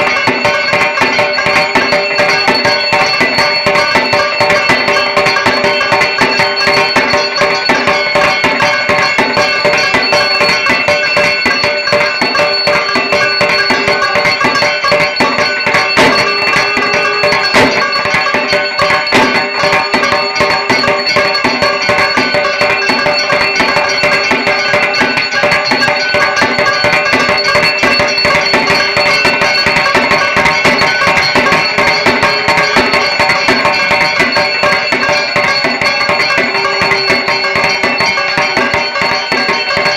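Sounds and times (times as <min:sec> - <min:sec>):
barrel drum played fast: 0:00.0 - 0:39.9
steady high tones: 0:00.0 - 0:39.9.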